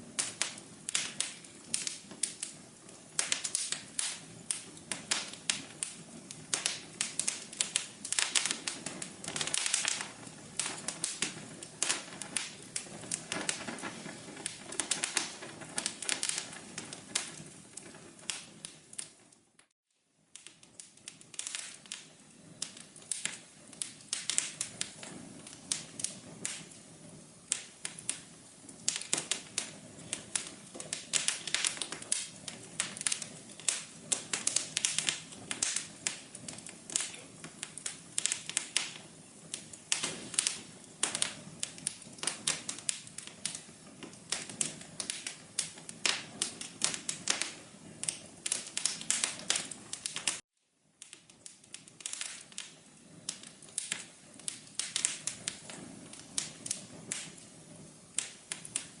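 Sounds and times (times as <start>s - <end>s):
low hiss: 0.0s - 59.0s
wood fire crackling: 0.0s - 59.0s.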